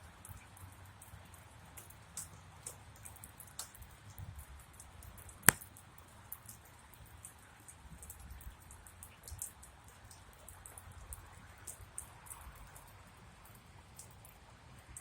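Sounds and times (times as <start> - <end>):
rain drops ticking: 0.0 - 15.0.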